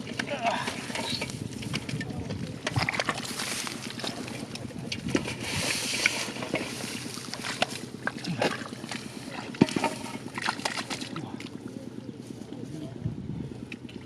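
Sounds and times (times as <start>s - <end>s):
splashing in muddy water: 0.0s - 12.0s.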